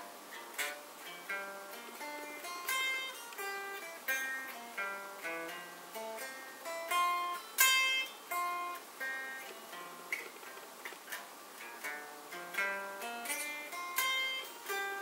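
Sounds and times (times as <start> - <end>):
electric guitar arpeggio: 0.0 - 15.0.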